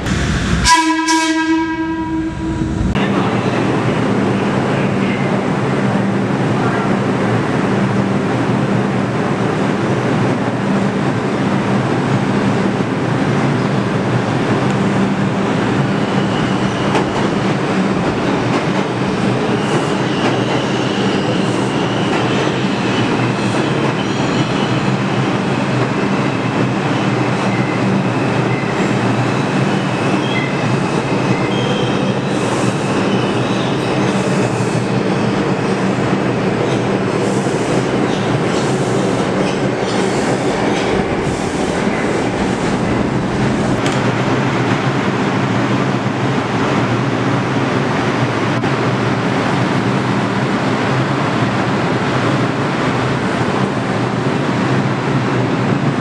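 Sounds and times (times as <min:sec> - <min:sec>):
subway train rumbling: 0:00.0 - 0:56.0.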